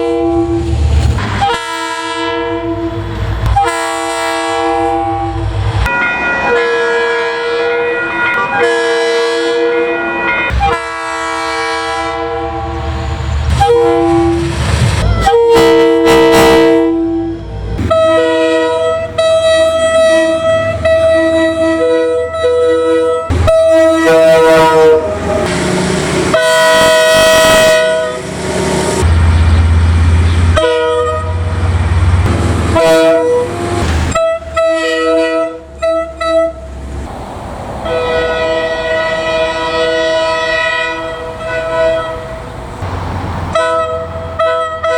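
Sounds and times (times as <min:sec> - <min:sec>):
train horn blasts: 0:00.0 - 0:29.1, 0:30.5 - 0:31.6, 0:32.2 - 0:36.7, 0:37.8 - 0:42.5, 0:43.5 - 0:44.9.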